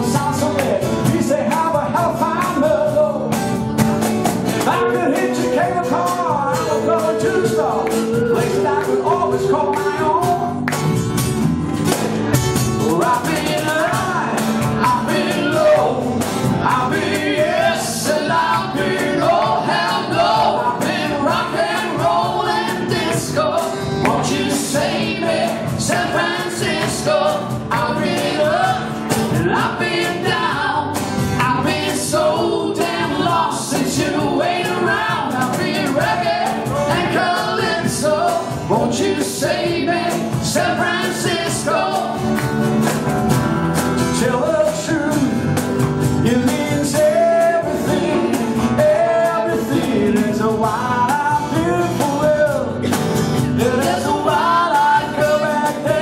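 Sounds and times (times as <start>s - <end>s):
man singing: 0.0s - 3.5s, 4.6s - 10.6s, 12.7s - 42.1s, 44.0s - 56.0s
acoustic guitars playing: 0.0s - 56.0s.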